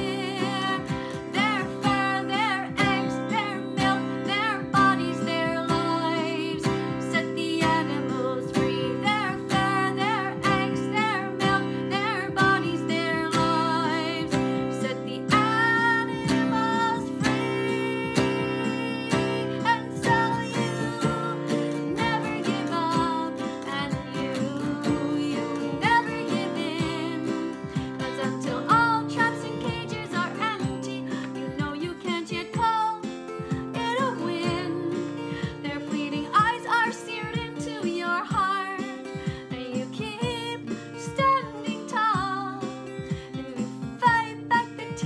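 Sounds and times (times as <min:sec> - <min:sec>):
strummed acoustic guitar: 0:00.0 - 0:45.0
woman singing with vibrato: 0:00.0 - 0:45.0.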